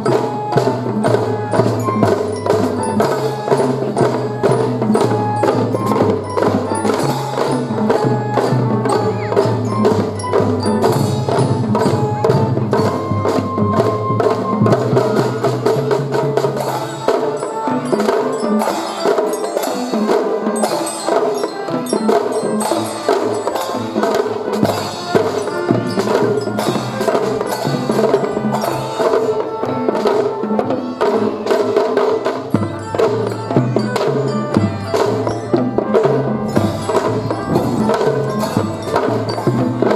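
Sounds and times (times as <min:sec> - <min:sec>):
drum and fife band march: 0:00.0 - 0:39.9.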